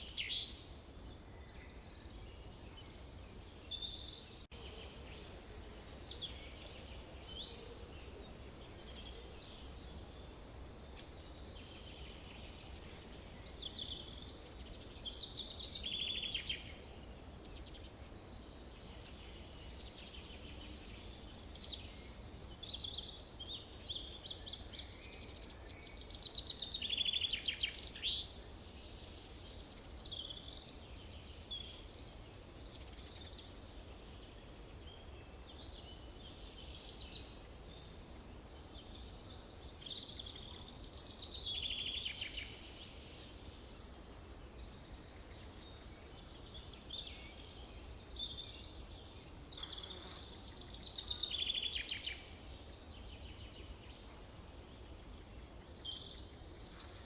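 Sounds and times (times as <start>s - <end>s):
birds singing and calling: 0.0s - 54.0s.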